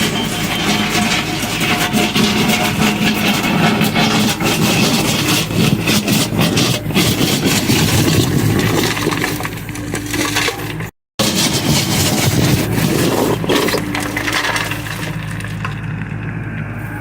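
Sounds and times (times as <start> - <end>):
timber cracking and splintering: 0.0 - 16.4
diesel engine running: 0.0 - 17.0.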